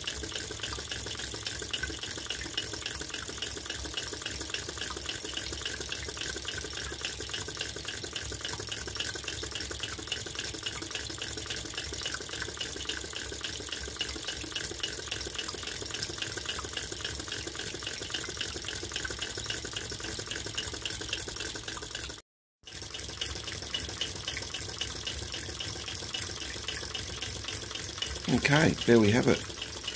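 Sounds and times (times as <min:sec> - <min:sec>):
rapid mechanical ticking: 0:00.0 - 0:29.9
water trickling into tray: 0:00.0 - 0:29.9.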